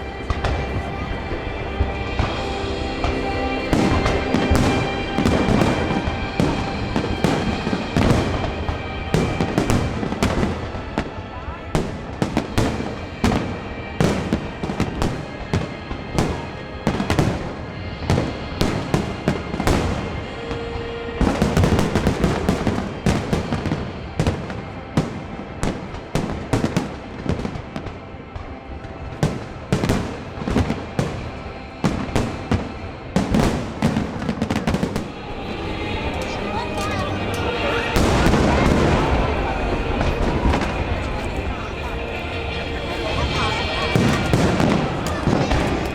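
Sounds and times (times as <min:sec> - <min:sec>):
fireworks bangs: 0:00.0 - 0:45.9
music playing: 0:00.0 - 0:45.9.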